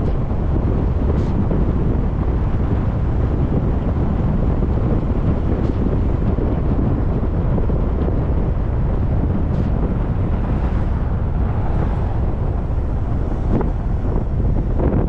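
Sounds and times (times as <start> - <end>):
car road and engine rumble: 0.0 - 15.0
wind noise: 0.0 - 15.0.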